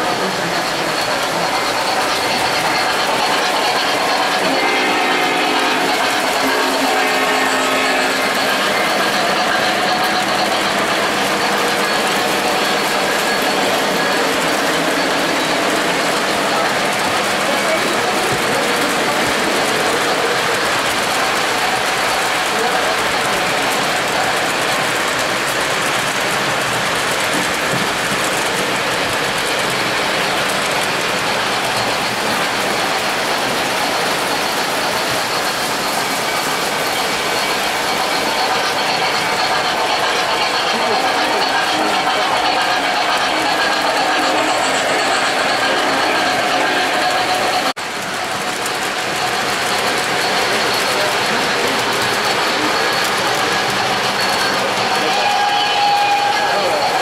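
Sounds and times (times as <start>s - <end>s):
model trains clattering: 0.0s - 57.0s.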